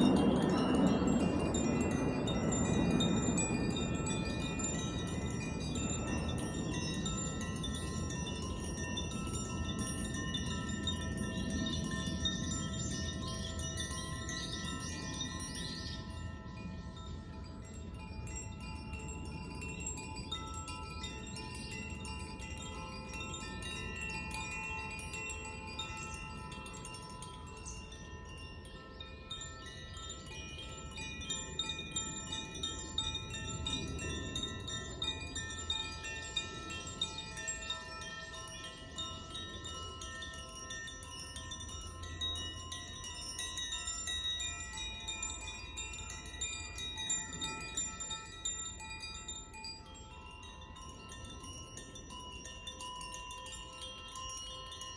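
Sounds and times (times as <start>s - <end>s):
chimes ringing: 0.0s - 54.9s.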